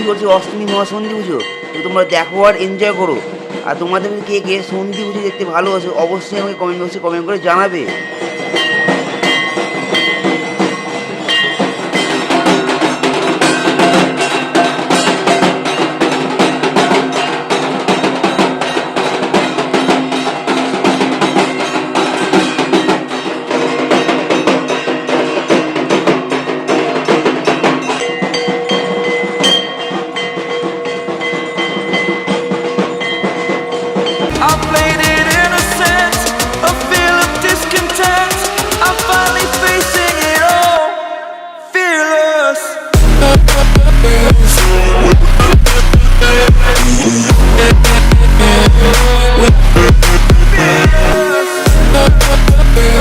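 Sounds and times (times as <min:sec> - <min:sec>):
bells ringing: 0:00.0 - 0:40.8, 0:43.0 - 0:53.0
fast ritual drumming: 0:00.0 - 0:40.8, 0:43.0 - 0:53.0.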